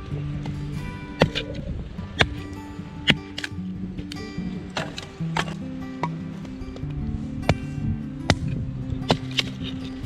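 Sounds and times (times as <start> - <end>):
low held music notes: 0.0 - 10.0.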